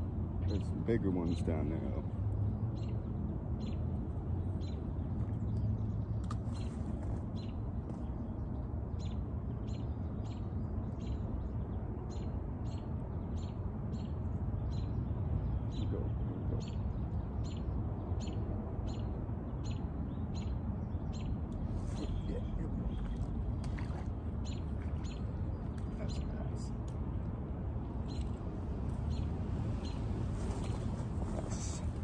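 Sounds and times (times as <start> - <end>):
low outdoor rush: 0.0 - 32.0
bird chirping: 0.4 - 32.0.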